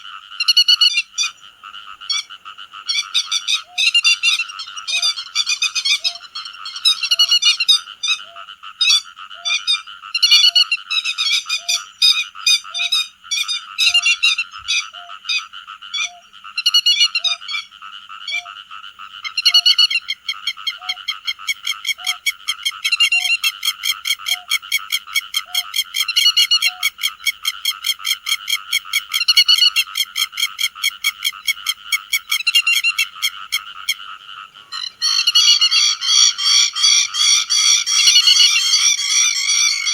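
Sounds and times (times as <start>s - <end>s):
lapwing sharp calls: 0.0s - 18.6s, 19.2s - 27.1s, 29.1s - 39.9s
dense croaking chorus: 0.0s - 39.9s.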